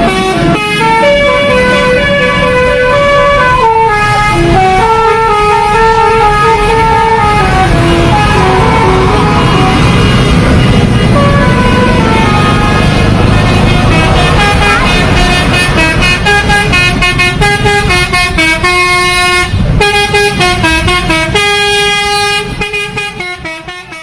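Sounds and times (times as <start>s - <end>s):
bus horn playing a melody: 0.0s - 24.0s.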